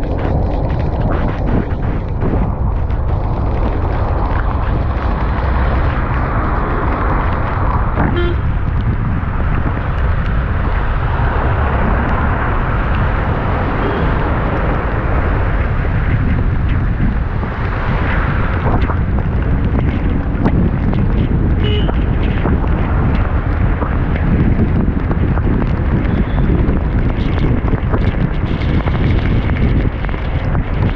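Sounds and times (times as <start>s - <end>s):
road noise: 0.0s - 30.9s
wind buffeting microphone: 0.0s - 30.9s.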